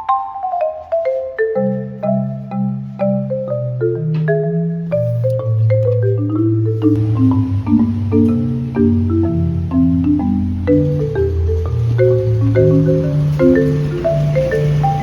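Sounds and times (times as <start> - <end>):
mallet melody over bass notes: 0.0 - 15.0.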